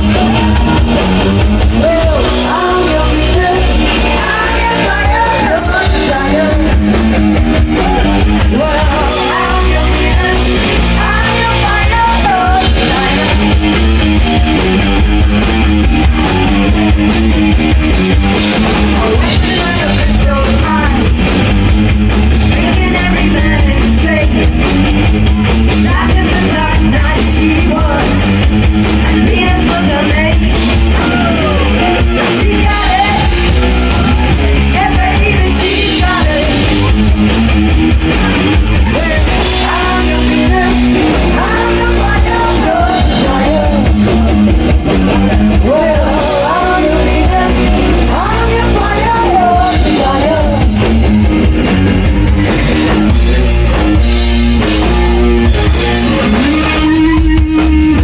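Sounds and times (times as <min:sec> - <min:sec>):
person singing: 0:00.0 - 0:13.8, 0:18.6 - 0:21.3, 0:22.5 - 0:24.5, 0:25.2 - 0:37.1, 0:38.1 - 0:51.0, 0:54.8 - 0:58.0
electric guitar: 0:00.0 - 0:58.0
live rock band playing: 0:00.0 - 0:58.0.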